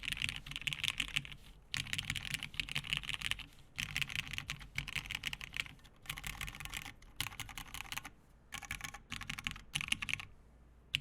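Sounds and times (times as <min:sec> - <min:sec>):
mechanical keyboard typing: 0:00.0 - 0:10.3.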